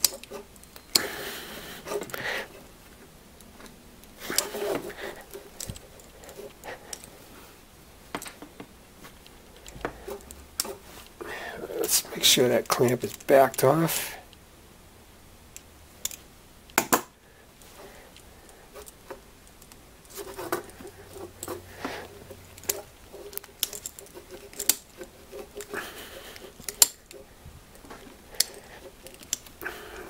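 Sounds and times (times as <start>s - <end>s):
handling of clamp and hose: 0.0s - 7.5s, 8.1s - 13.9s, 17.6s - 30.0s.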